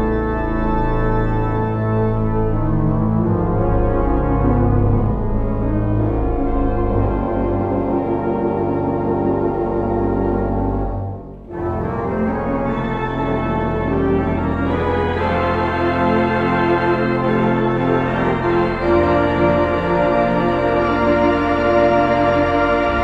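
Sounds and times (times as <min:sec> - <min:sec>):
organ playing sustained chords: 0:00.0 - 0:23.0.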